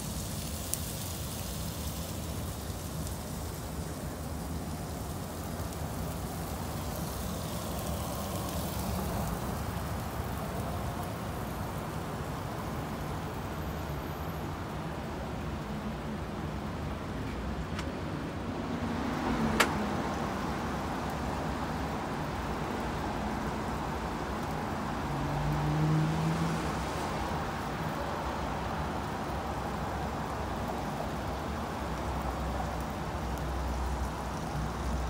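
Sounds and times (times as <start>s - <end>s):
city traffic hum: 0.0s - 35.0s
meat sizzling on a grill: 0.0s - 35.0s.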